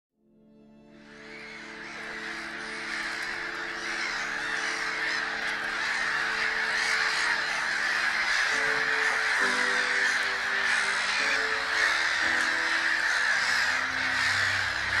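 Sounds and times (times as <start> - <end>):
background music chords: 0.2 - 15.0
gulls calling: 1.0 - 15.0.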